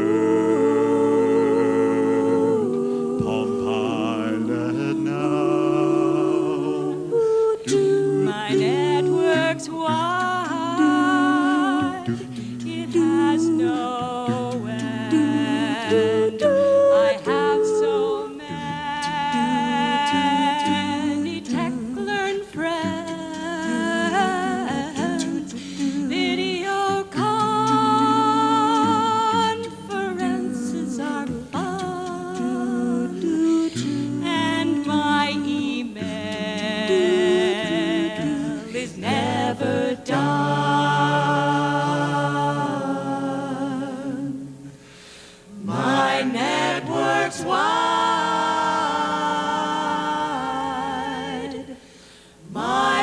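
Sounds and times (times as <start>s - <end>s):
a cappella group singing in harmony: 0.0s - 53.0s.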